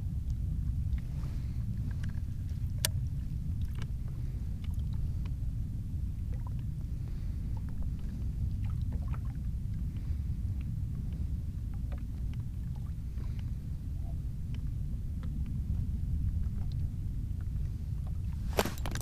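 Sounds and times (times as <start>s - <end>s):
water and wind rumble: 0.0s - 19.0s.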